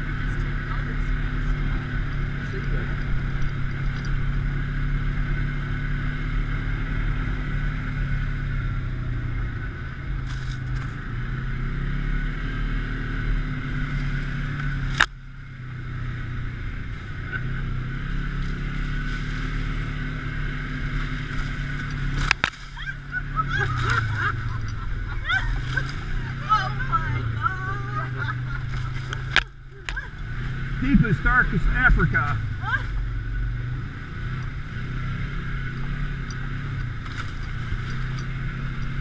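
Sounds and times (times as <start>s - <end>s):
engine running with low drone: 0.0s - 39.0s.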